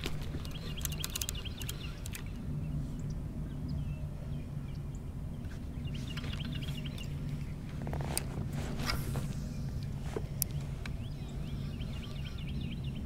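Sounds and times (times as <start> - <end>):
small birds chirping: 0.0 - 8.1, 9.1 - 13.0
low rumble and hum: 0.0 - 13.0.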